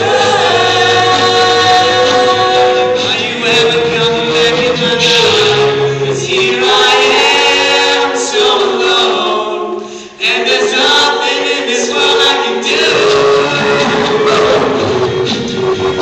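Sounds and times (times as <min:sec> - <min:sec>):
men singing a cappella harmony: 0:00.0 - 0:15.3.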